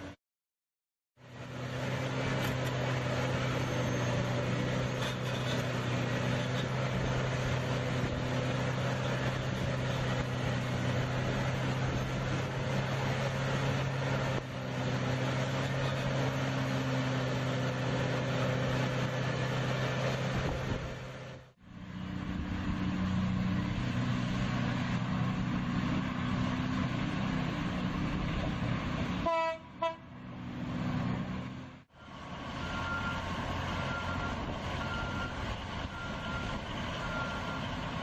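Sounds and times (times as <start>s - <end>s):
heavy machinery humming: 1.2s - 38.0s.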